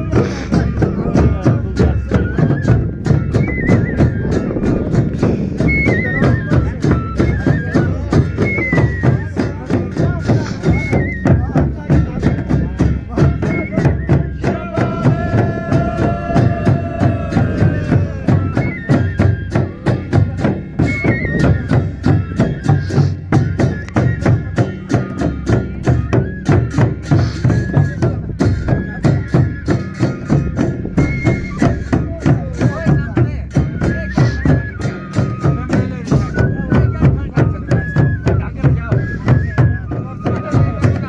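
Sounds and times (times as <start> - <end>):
drums in fast rhythm: 0.0 - 41.0
wind instrument melody: 0.0 - 41.0.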